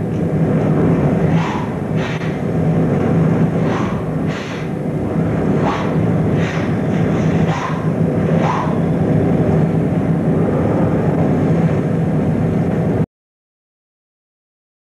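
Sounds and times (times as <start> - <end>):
loud rumbling noise: 0.0 - 13.1.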